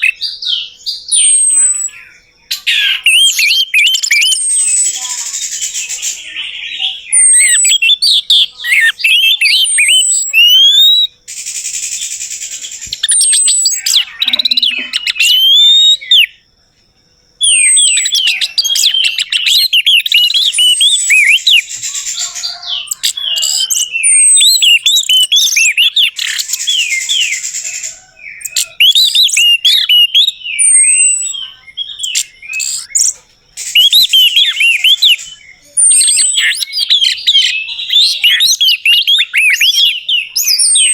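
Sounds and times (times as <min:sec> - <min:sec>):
thrush singing whistles and chatter: 0:00.0 - 0:40.9.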